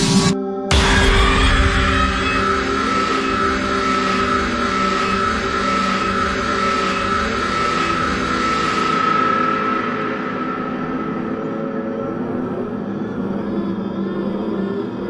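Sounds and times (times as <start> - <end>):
dark ambient drone: 0.0 - 15.0.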